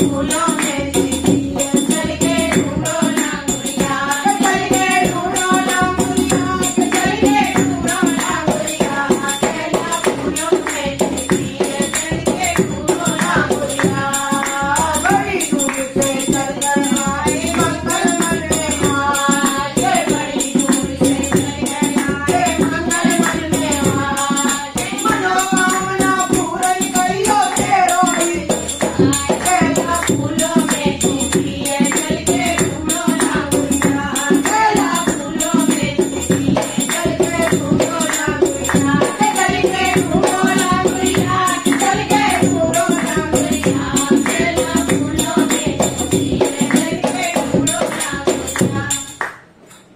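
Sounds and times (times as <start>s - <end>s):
fast dholak beat: 0.0s - 49.2s
woman singing: 0.0s - 49.2s
rattling jingle percussion: 0.0s - 49.9s.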